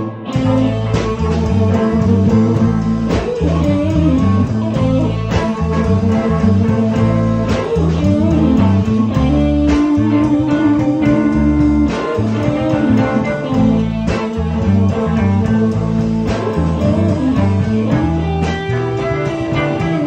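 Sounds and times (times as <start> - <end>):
blues band music: 0.0 - 20.0
drum hits: 0.4 - 20.0.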